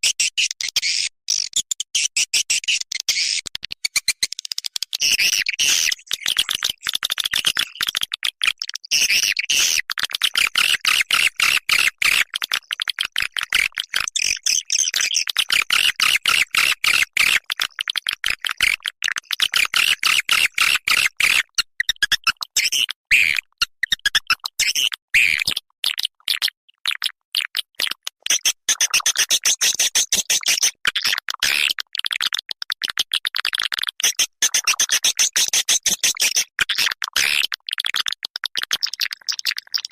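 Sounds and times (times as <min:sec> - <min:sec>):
rapid high bird chirps and clicks: 0:00.0 - 0:39.9.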